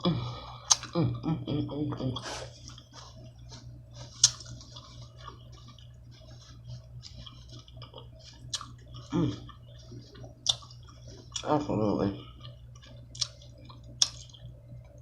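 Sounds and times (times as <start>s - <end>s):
steady low hum: 0.0s - 15.0s
wet chewing: 0.5s - 1.0s, 2.2s - 15.0s.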